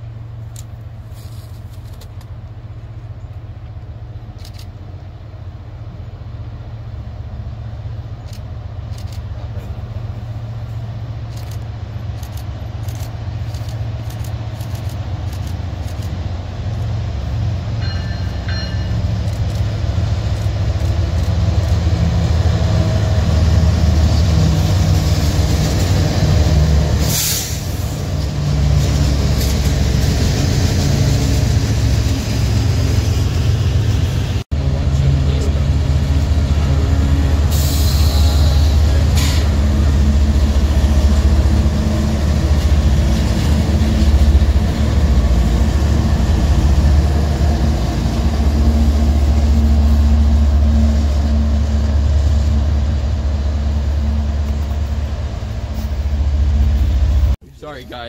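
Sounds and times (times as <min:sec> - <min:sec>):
diesel locomotive engine rumble: 0:00.0 - 0:58.0
freight cars rolling on rails: 0:07.5 - 0:58.0.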